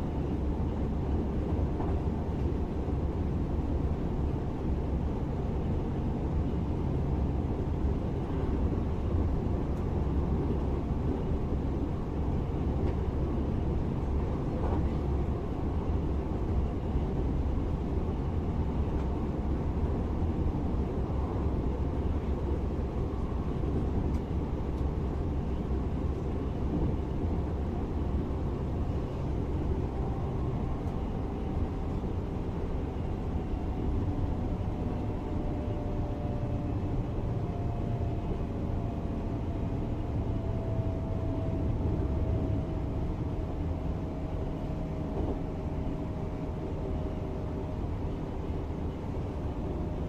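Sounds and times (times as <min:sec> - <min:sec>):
train running rumble: 0:00.0 - 0:50.0.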